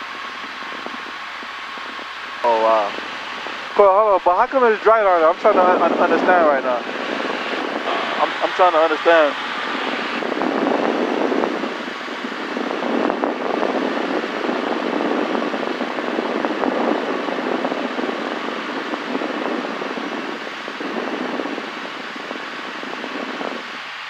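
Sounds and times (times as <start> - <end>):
small plane cabin roar: 0.0 - 24.0.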